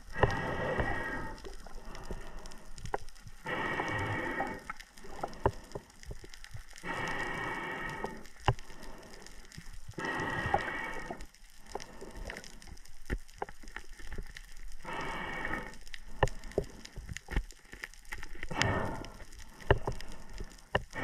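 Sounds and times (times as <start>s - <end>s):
underwater crackling: 0.0s - 21.0s.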